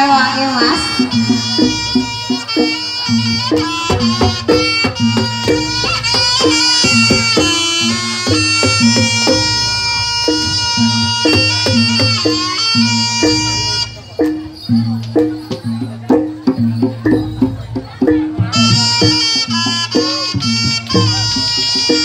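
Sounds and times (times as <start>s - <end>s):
shrill double-reed wind instrument: 0.0s - 14.8s, 18.4s - 22.0s
drum beats: 0.0s - 22.0s
metallic gamelan strikes: 0.0s - 22.0s.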